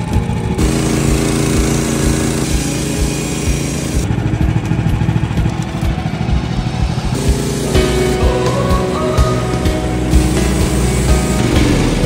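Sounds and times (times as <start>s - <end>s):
gasoline engine running: 0.0s - 12.0s.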